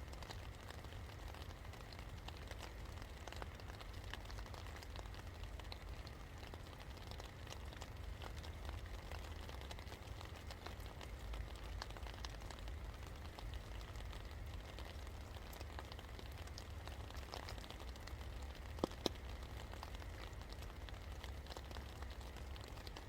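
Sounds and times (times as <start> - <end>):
constant low rumble: 0.0 - 23.0
rain pattering on hard surface: 0.0 - 23.0.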